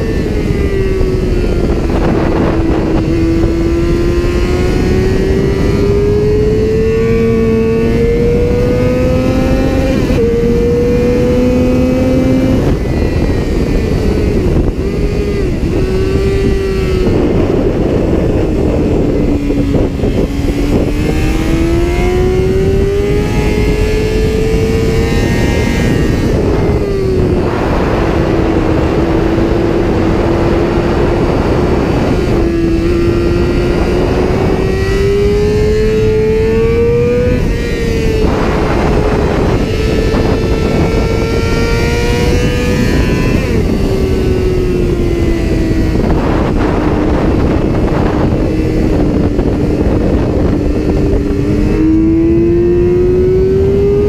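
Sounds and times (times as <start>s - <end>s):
motorcycle engine at high revs: 0.0s - 54.0s
wind and road noise: 0.0s - 54.0s.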